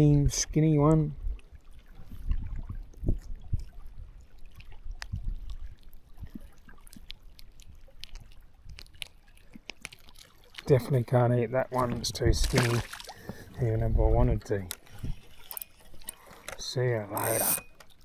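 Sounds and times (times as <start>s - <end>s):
faint trickling water: 0.8s - 17.1s.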